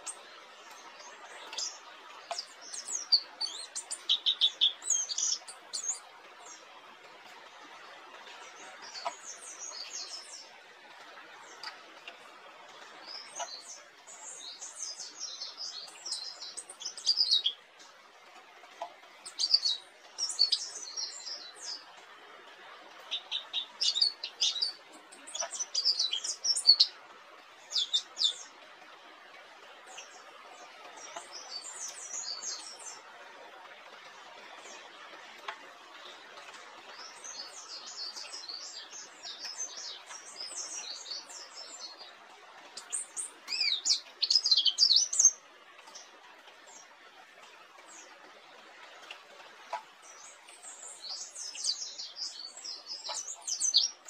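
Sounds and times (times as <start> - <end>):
bird twittering song: 0.0 - 17.8, 19.1 - 22.1, 22.8 - 28.7, 29.4 - 33.2, 34.0 - 54.0
steady background hiss: 0.0 - 54.0.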